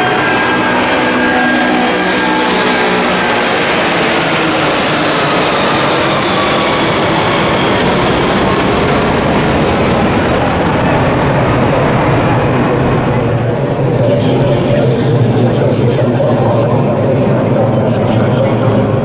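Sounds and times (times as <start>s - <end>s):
jet airliner flying past: 0.0s - 19.0s.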